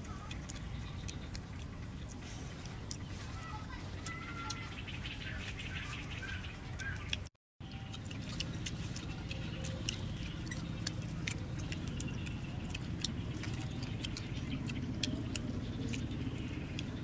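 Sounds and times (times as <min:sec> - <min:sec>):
chewing and tearing food: 0:00.0 - 0:17.0
steady low rumble: 0:00.0 - 0:17.0.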